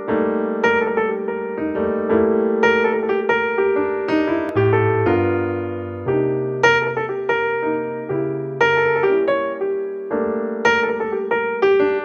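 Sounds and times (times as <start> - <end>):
electric piano tune: 0.0 - 12.0.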